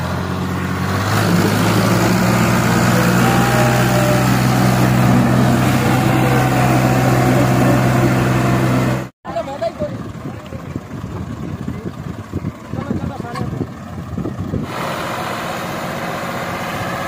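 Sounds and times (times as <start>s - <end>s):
diesel tractor engines under load: 0.0s - 17.0s.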